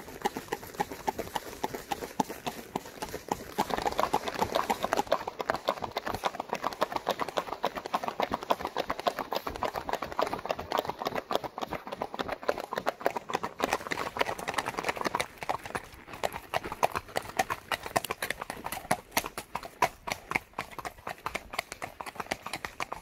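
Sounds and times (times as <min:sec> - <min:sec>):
horse hoofbeats: 0:00.0 - 0:23.0.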